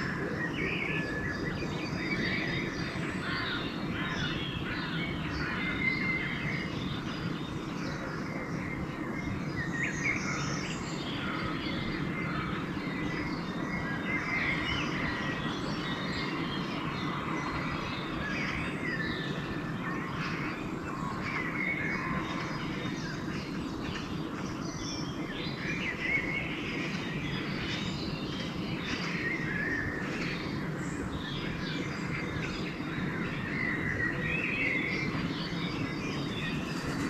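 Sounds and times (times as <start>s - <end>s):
songbirds chirping and whistling: 0.0s - 37.0s.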